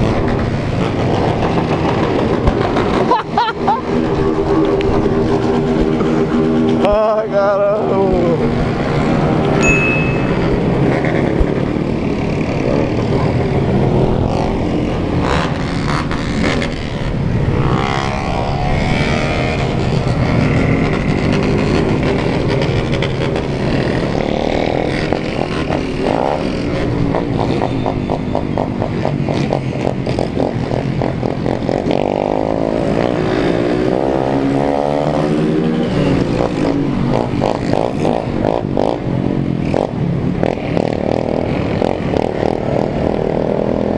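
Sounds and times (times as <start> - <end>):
motorcycles revving: 0.0 - 43.9.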